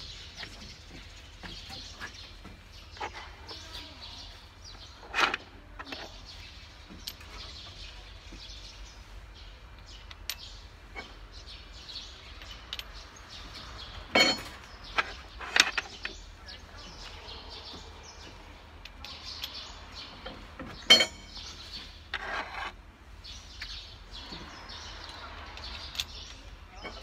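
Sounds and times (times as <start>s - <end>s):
birds chirping faintly: 0.0s - 27.0s.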